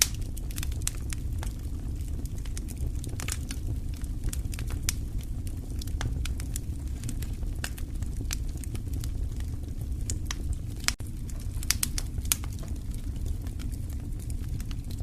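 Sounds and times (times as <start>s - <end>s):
burning wood popping and crackling: 0.0s - 15.0s
fire flames rumbling: 0.0s - 15.0s.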